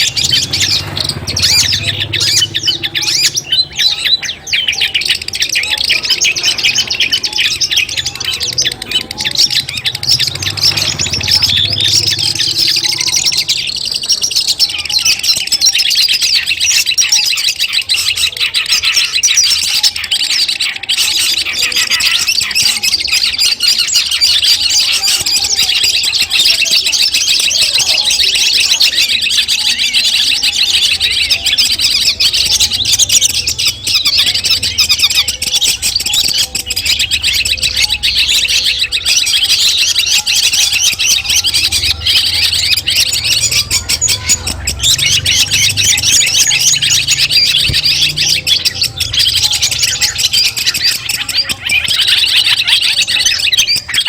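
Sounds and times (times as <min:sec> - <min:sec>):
shrike chattering song: 0:00.0 - 0:54.0.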